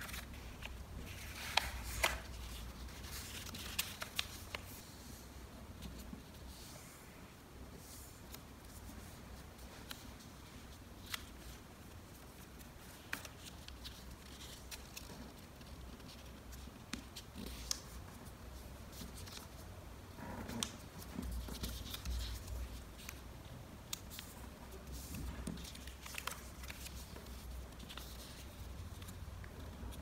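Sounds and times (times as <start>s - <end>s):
paper folding clicks and crinkles: 0.0s - 4.9s, 8.2s - 19.6s, 20.4s - 30.0s
paper rustling: 0.0s - 4.9s, 8.1s - 19.6s, 20.4s - 23.2s, 23.9s - 30.0s.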